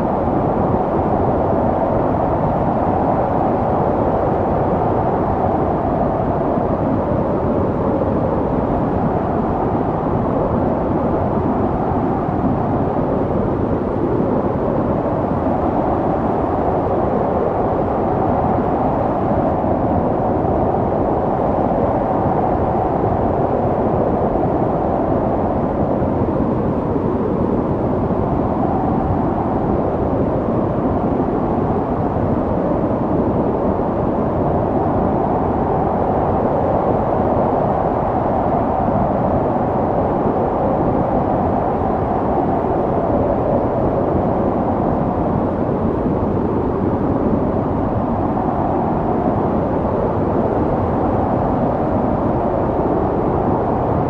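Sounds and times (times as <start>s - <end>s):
howling snowstorm wind: 0.0s - 54.0s.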